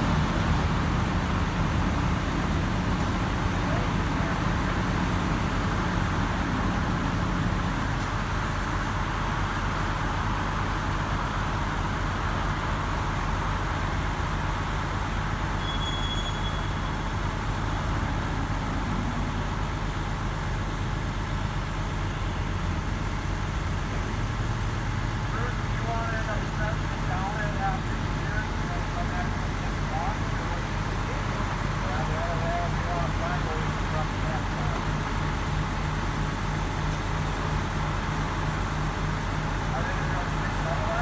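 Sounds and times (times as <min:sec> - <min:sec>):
heavy diesel engines running: 0:00.0 - 0:41.0.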